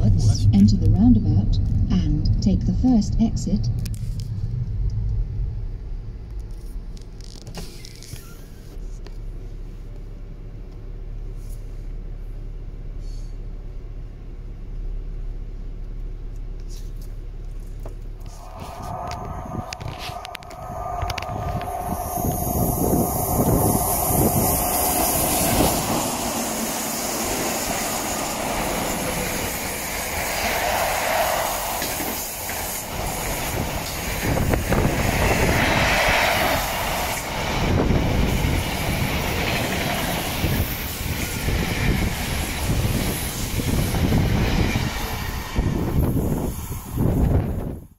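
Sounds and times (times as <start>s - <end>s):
steel wheels rumbling on rails: 0.0s - 9.3s, 18.1s - 47.9s.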